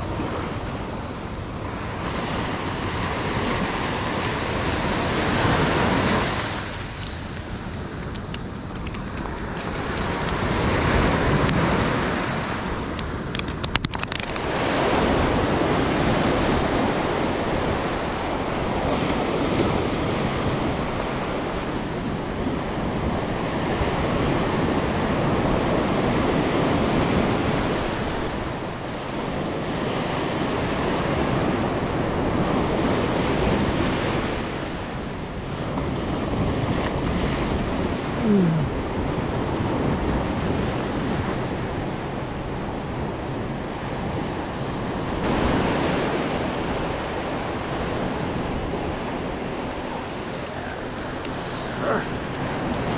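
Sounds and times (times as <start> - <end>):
ocean surf breaking: 0.0 - 52.9.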